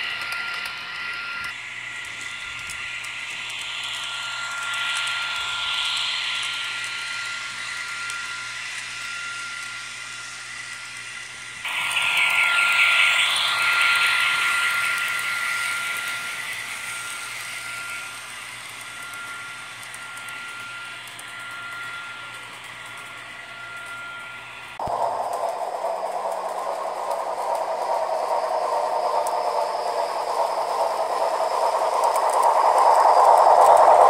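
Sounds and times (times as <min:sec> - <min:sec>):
thin steady whine: 0:00.0 - 0:34.0.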